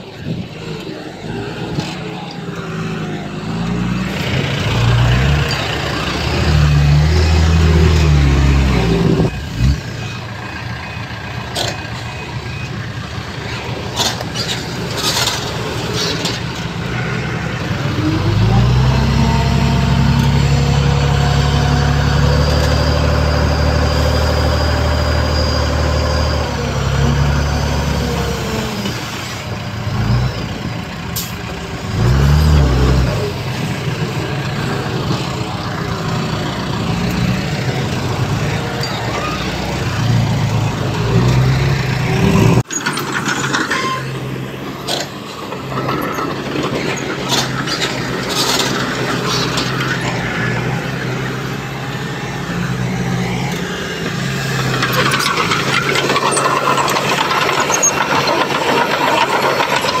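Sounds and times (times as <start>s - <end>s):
diesel machinery engine revving: 0.0s - 60.0s.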